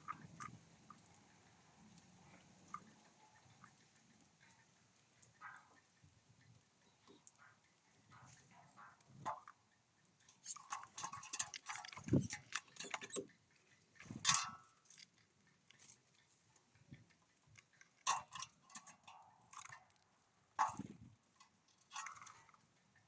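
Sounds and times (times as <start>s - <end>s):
birds pecking and cracking seeds: 0.0s - 23.0s.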